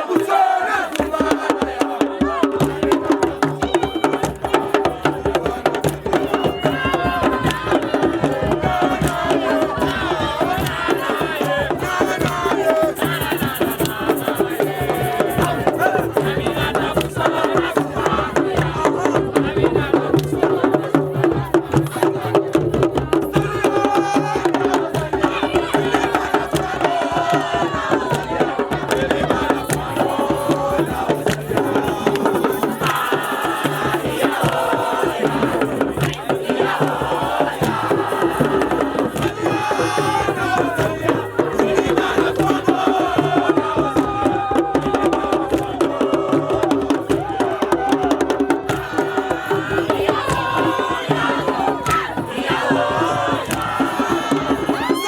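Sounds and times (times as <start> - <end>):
crowd singing and chanting: 0.0 - 55.0
fast hand percussion: 0.0 - 55.0.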